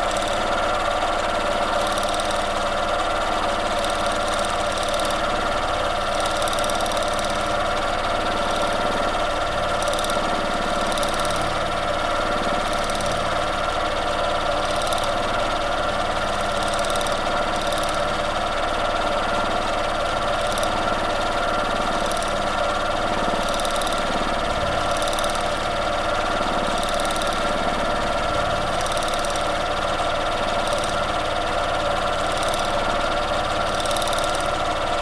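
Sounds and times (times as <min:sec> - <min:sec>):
sewing machine running: 0:00.0 - 0:35.0.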